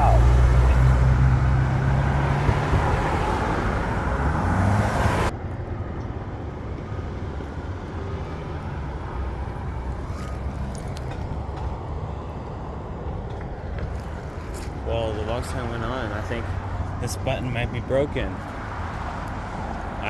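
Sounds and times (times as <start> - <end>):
distant traffic hum: 0.0 - 20.0
vehicle engine drone: 0.0 - 20.0.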